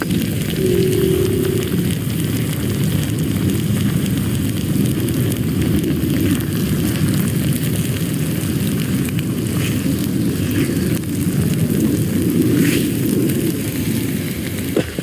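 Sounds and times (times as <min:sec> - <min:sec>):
low rumbling noise: 0:00.0 - 0:12.6
faint fire crackling: 0:00.0 - 0:15.0.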